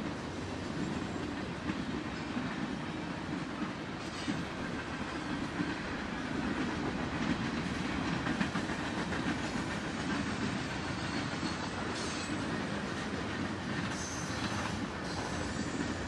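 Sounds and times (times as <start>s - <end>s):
freight train rumbling past: 0.0s - 16.0s
wheels clicking over rail joints: 0.4s - 16.0s.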